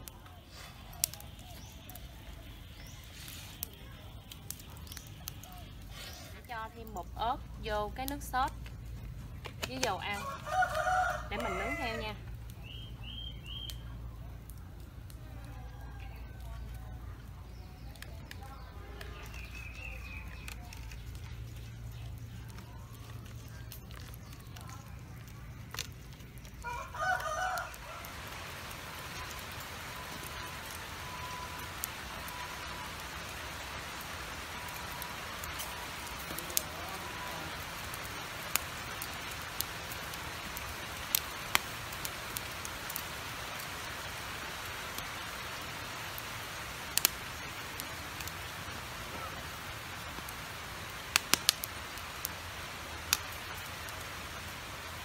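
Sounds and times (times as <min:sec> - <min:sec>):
meat sizzling over charcoal: 0:00.0 - 0:55.0.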